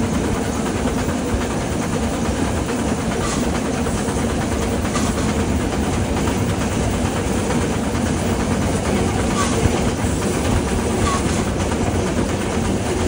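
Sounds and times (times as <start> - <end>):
train wheels rattling on rails: 0.0 - 13.0.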